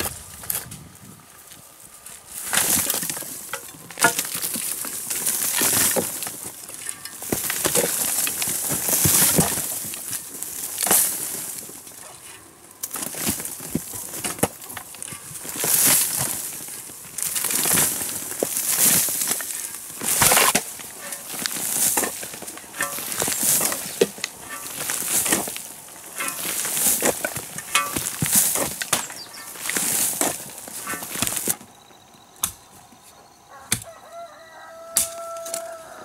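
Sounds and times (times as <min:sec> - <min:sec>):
hand tool scraping soil: 0:01.5 - 0:31.6.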